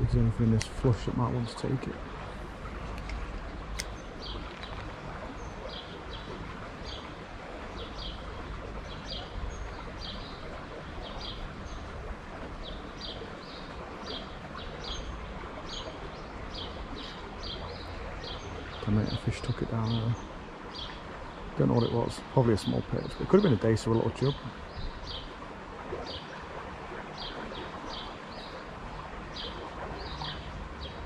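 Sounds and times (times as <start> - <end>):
songbird chirping: 0.0 - 31.0.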